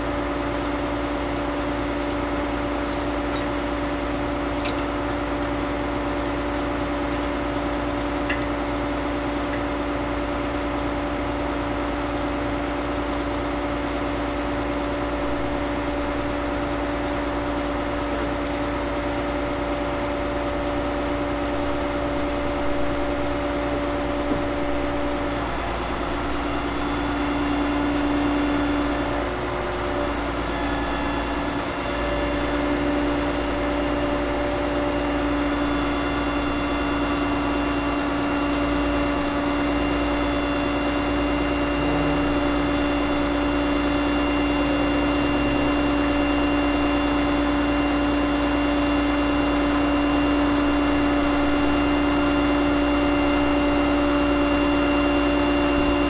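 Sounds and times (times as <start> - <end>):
truck engine running with whine: 0.0 - 56.0.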